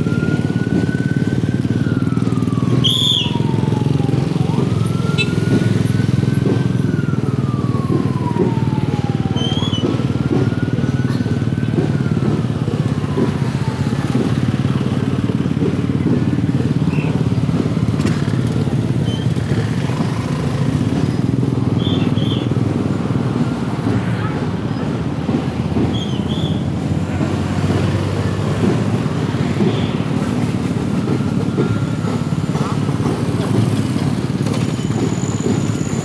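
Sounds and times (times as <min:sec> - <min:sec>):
motorcycle engines in traffic: 0:00.0 - 0:36.0.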